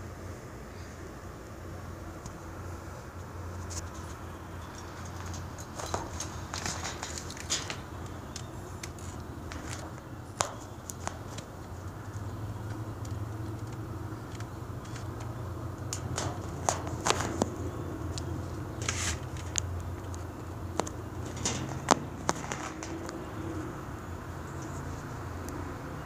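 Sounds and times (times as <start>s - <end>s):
steady low hum: 0.0s - 26.0s
crackly rustles: 0.7s - 25.6s.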